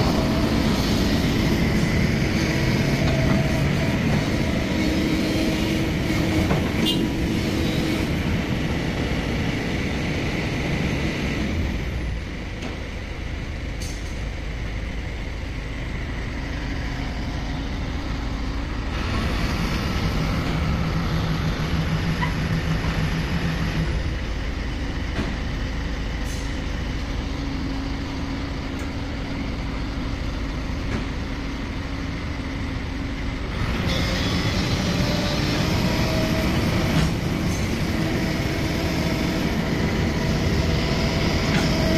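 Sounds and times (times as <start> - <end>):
diesel engines under load: 0.0 - 41.9.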